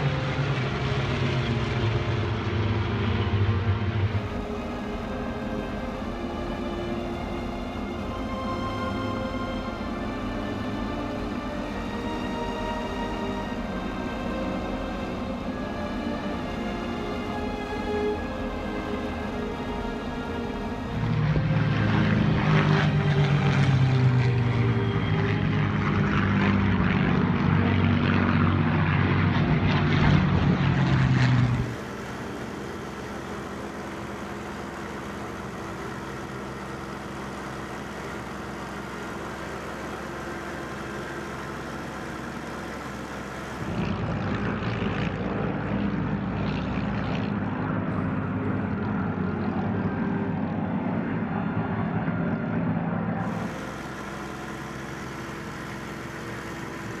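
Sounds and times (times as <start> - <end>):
aircraft engines droning: 0.0 - 57.0.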